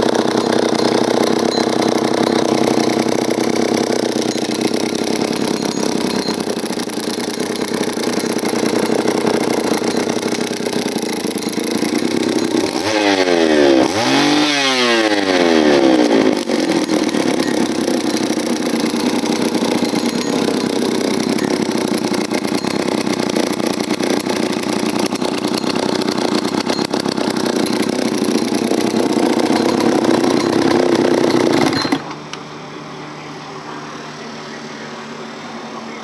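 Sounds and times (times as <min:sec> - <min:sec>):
two-stroke chainsaw running: 0:00.0 - 0:32.4.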